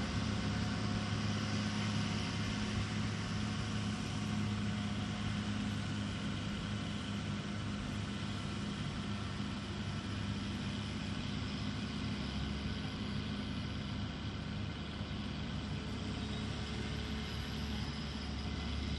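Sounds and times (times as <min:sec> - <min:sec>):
diesel engine droning: 0:00.0 - 0:18.9.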